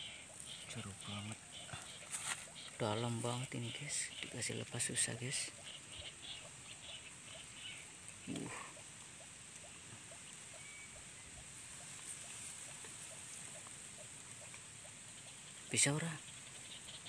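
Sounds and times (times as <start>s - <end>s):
rustling in dry grass: 0.0s - 4.2s, 5.0s - 17.0s
steady high hiss: 0.0s - 17.0s.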